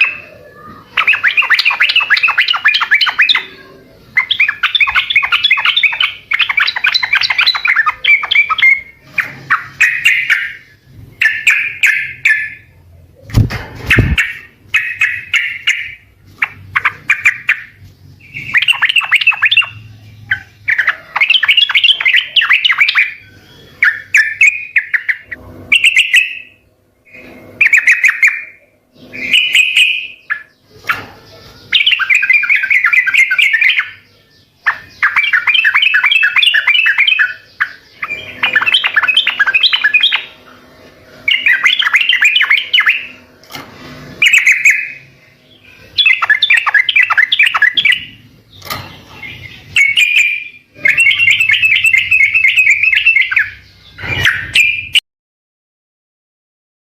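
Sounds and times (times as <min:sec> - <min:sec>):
bulbul chattering song: 0:00.0 - 0:55.0.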